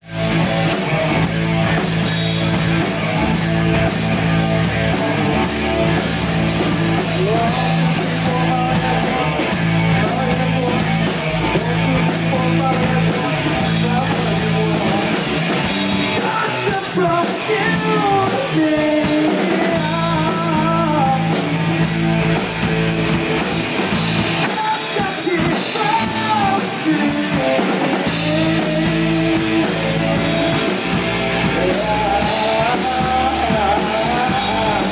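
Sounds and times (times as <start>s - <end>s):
bass guitar: 0.0s - 34.9s
drum kit: 0.0s - 34.9s
electric guitars: 0.0s - 34.9s
person singing lead vocal: 4.2s - 21.9s, 23.8s - 34.9s.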